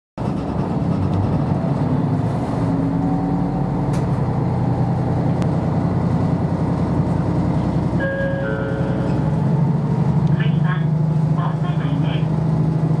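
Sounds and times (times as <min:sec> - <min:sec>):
railcar engine rumble: 0:00.2 - 0:13.0.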